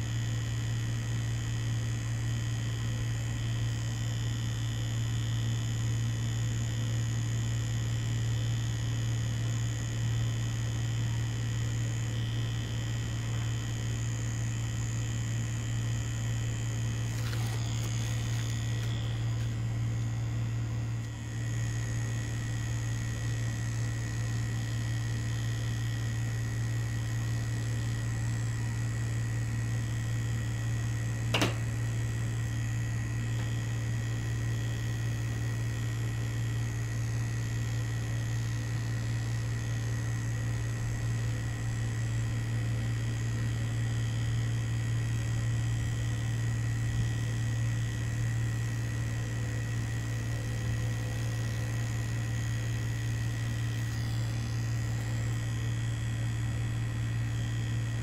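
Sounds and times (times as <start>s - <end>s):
tattoo machine buzzing: 0.0s - 58.0s.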